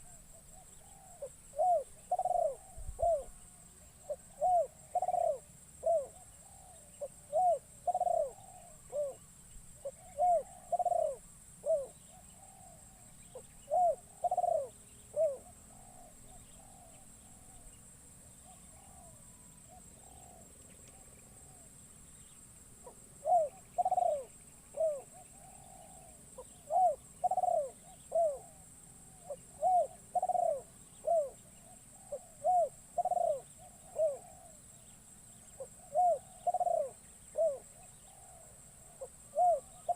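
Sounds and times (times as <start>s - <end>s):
dove cooing: 0.0s - 21.7s, 22.8s - 34.8s, 35.5s - 39.9s
steady high-pitched hiss: 0.0s - 39.9s.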